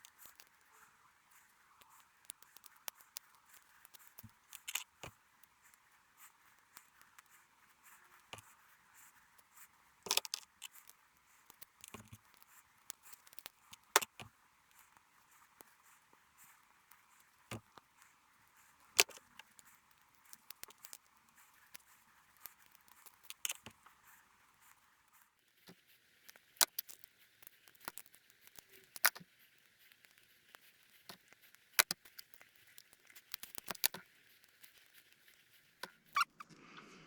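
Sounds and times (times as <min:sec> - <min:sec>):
light clicks and taps of handling parts: 0:00.0 - 0:36.2.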